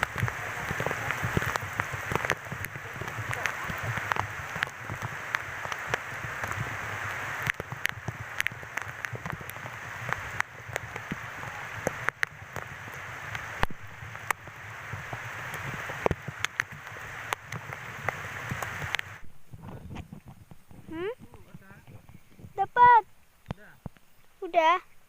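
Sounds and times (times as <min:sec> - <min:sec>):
heavy rain falling: 0:00.0 - 0:20.1
raindrops tapping nearby: 0:00.0 - 0:25.0.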